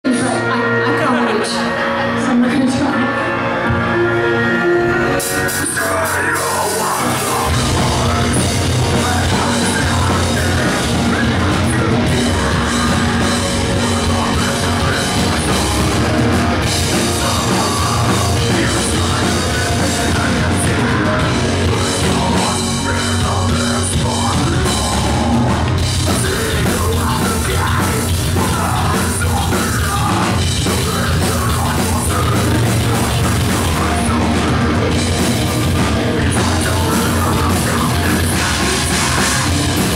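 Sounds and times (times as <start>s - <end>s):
rock band playing loud: 0.0s - 39.9s
person singing into microphone: 5.2s - 39.9s.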